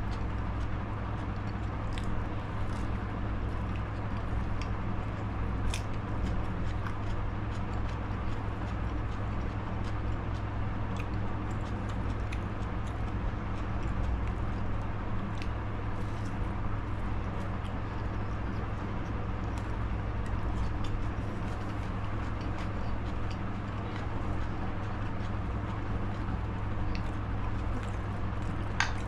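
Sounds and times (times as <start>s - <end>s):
low background hum: 0.0s - 29.0s
person chewing food: 0.0s - 29.0s.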